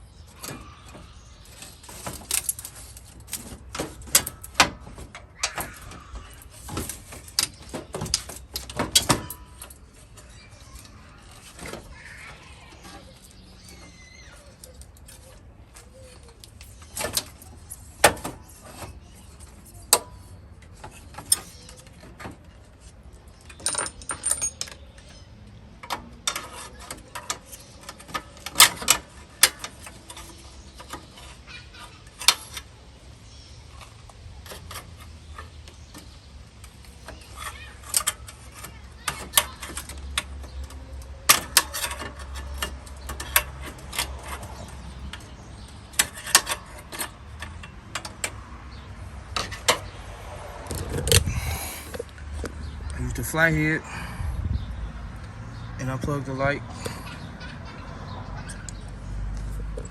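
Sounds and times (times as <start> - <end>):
tools and metal parts clinking: 0.1 - 53.2.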